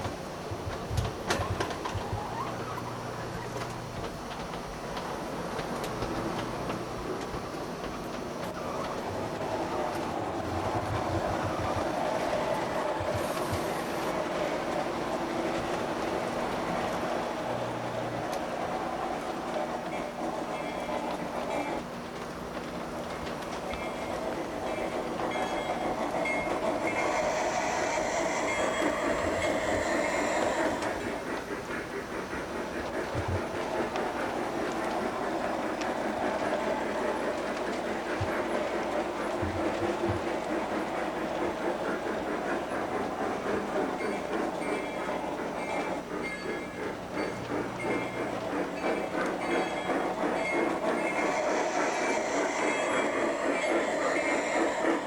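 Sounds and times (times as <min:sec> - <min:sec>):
model train wheels rattling: 0:03.6 - 0:55.0.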